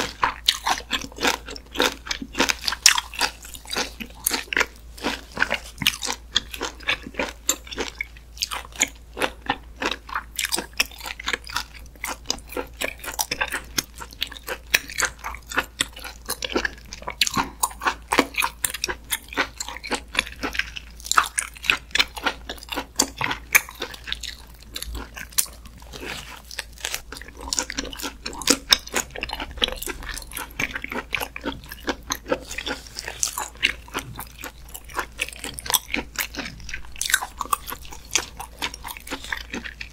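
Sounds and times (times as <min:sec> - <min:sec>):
chewing with mouth clicks: 0:00.0 - 0:39.9.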